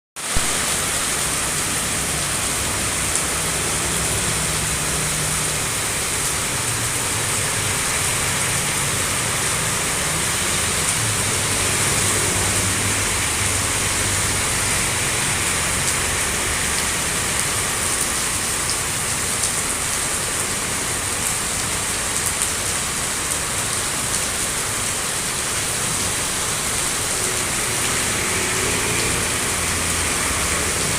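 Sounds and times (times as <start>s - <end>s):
heavy wind-driven rain: 0.2s - 30.9s.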